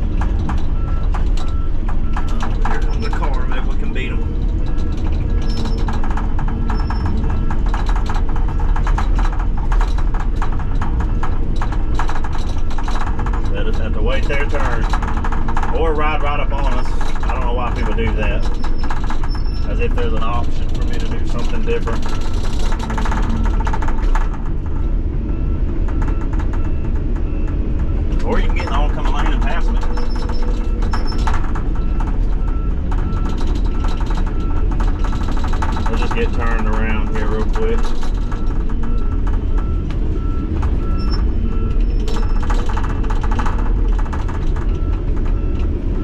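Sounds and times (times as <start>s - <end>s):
rattling: 0.0s - 25.0s, 25.8s - 45.8s
truck diesel engine rumble: 0.0s - 46.0s.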